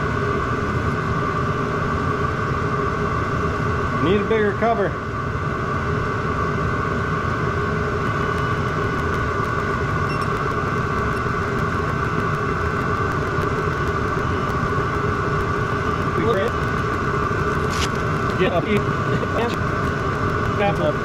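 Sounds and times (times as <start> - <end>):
diesel heater whirring drone: 0.0 - 21.0.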